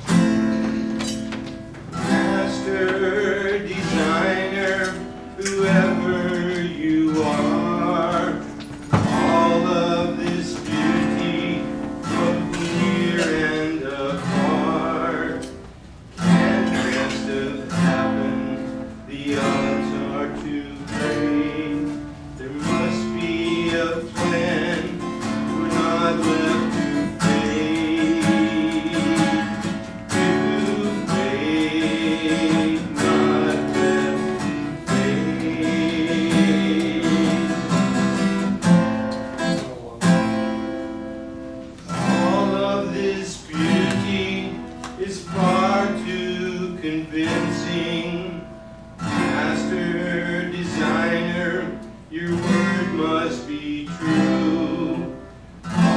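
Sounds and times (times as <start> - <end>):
acoustic guitar song: 0.0 - 55.9.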